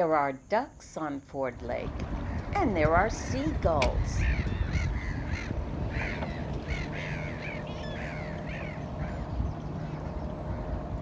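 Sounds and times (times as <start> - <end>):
seagulls calling: 1.8 - 11.0.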